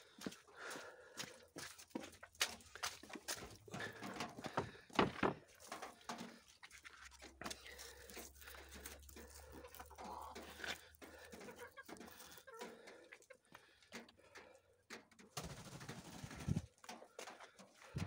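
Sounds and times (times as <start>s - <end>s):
chickens scuffing and clicking: 0.0s - 18.0s
chickens clucking: 2.1s - 18.0s.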